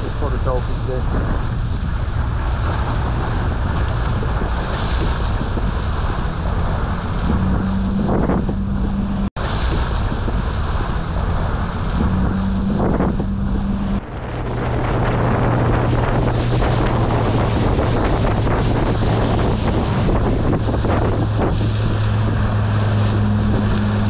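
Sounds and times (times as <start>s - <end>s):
low engine hum: 0.0s - 24.0s
water washing around boat: 0.0s - 24.0s
wind buffeting microphone: 0.0s - 24.0s.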